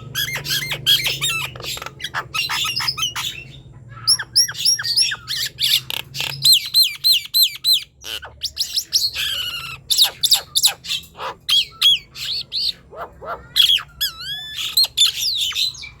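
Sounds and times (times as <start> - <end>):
myna singing whistles and calls: 0.1 - 16.0.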